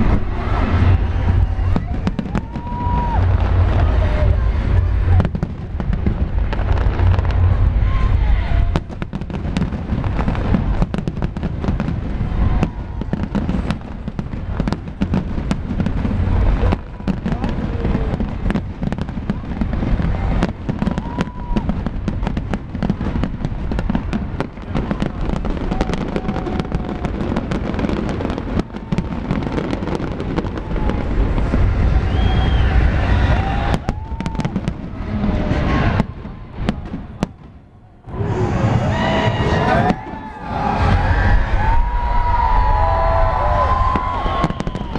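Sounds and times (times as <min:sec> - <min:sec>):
firework bangs and crackles: 0:00.0 - 0:44.9.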